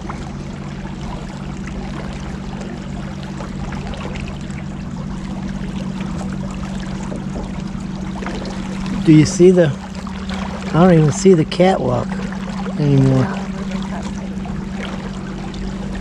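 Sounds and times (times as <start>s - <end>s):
motorboat engine humming: 0.0s - 16.0s
water rushing along hull: 0.0s - 16.0s.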